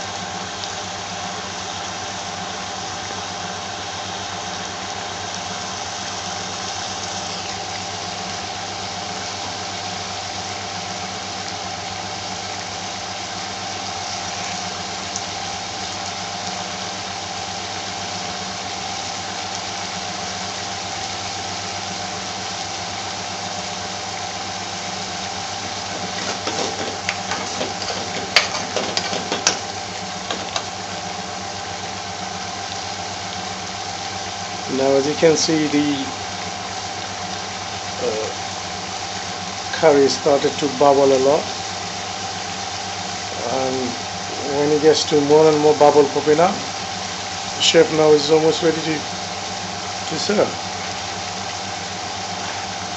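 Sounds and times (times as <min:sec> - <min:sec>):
curry bubbling in a metal pan: 0:00.0 - 0:52.9
mechanical hum: 0:00.0 - 0:52.9.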